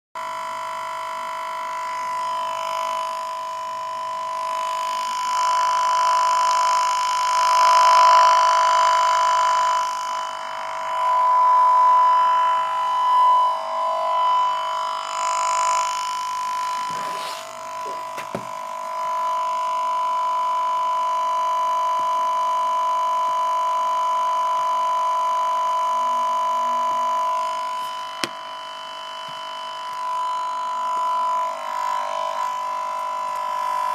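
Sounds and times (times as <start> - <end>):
computer whine: 0.2 - 33.9.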